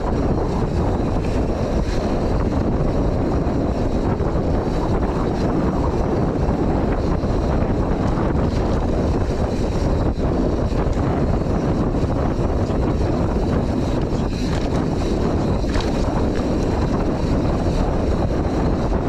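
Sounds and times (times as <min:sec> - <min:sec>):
tyres rumbling on dirt: 0:00.0 - 0:19.0
wind over microphone: 0:00.0 - 0:19.0
bike clicks and rattles: 0:00.1 - 0:19.0.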